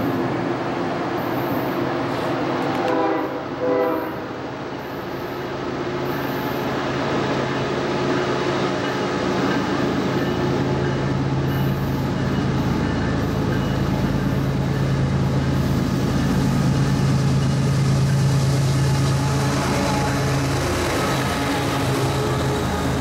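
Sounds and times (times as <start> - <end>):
locomotive engine drone: 0.0 - 23.0
train wheel and rail noise: 0.0 - 23.0.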